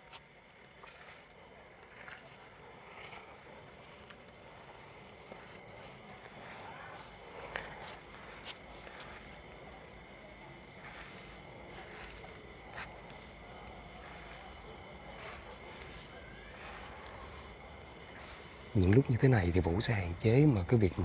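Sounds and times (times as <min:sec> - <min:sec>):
footsteps through grass: 0:00.0 - 0:19.2
crickets chirping: 0:00.0 - 0:21.0.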